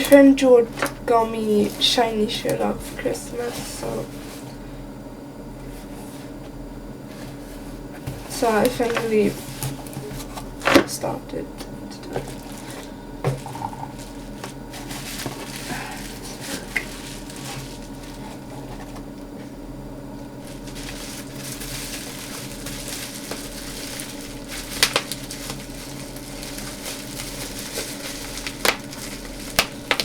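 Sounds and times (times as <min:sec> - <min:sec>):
packaging rustling and crinkling: 0:00.0 - 0:04.6, 0:07.0 - 0:11.0, 0:12.0 - 0:19.2, 0:20.2 - 0:30.0.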